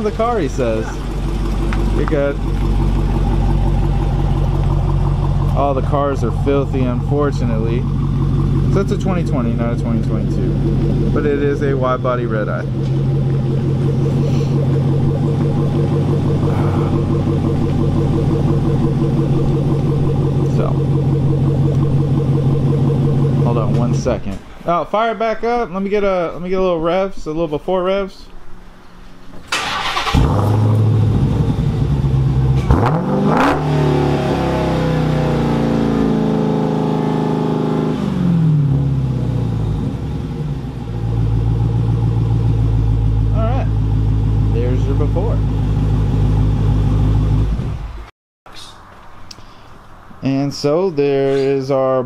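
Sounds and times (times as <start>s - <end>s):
car engine idling: 0.0s - 24.6s, 29.6s - 50.2s.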